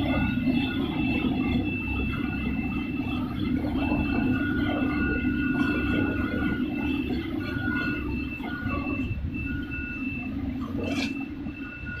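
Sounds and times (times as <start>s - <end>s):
factory machinery humming: 0.0s - 12.0s
thin high whine: 0.0s - 12.0s.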